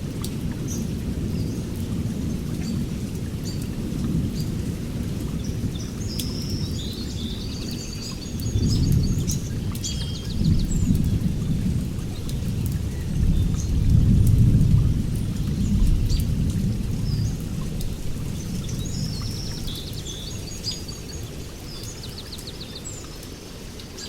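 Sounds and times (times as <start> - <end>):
heavy rain on foliage: 0.0 - 24.0.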